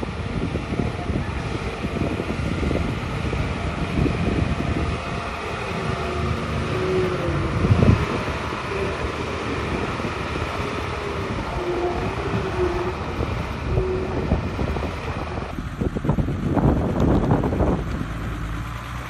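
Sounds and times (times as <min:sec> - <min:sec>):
dump truck diesel engine: 0:00.0 - 0:19.0.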